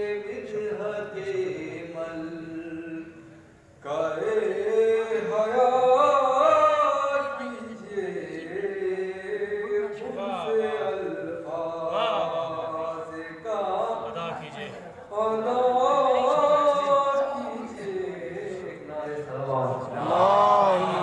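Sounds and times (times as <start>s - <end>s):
man chanting into a microphone: 0.0s - 21.0s.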